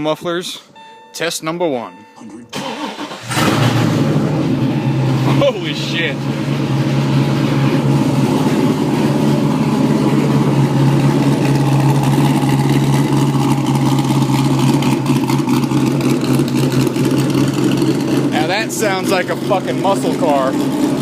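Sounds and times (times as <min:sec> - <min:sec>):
engine idling through open exhaust: 0:03.5 - 0:21.0.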